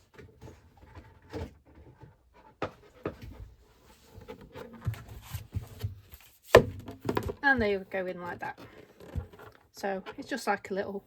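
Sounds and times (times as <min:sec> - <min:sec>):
knocks taps and rustles: 0:00.0 - 0:10.5.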